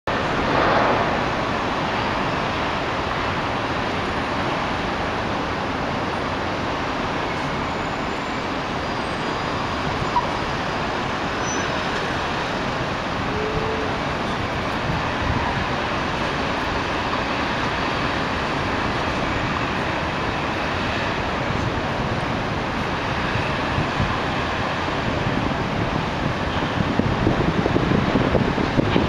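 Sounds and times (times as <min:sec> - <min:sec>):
city traffic noise: 0:00.1 - 0:29.0.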